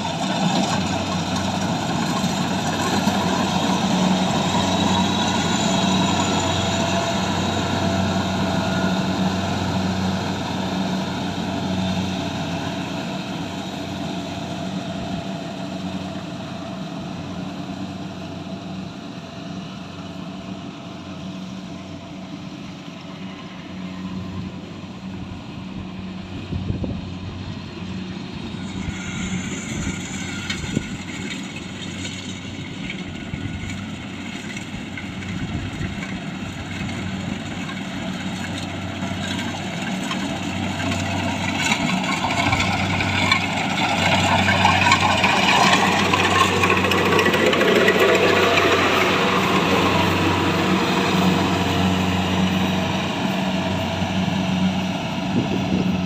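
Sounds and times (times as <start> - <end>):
harvester diesel engine running: 0.0 - 56.0.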